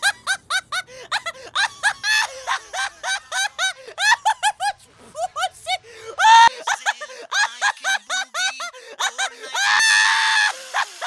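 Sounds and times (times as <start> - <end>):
cartoon voice cackling: 1.6 - 11.0.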